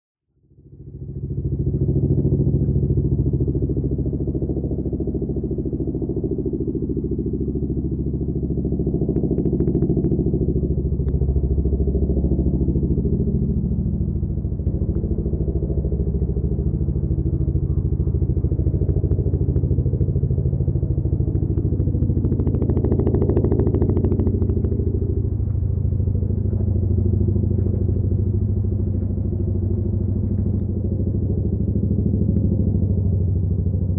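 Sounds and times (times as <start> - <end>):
turbine engine drone: 0.3 - 33.9
helicopter rotors chopping: 6.2 - 33.9.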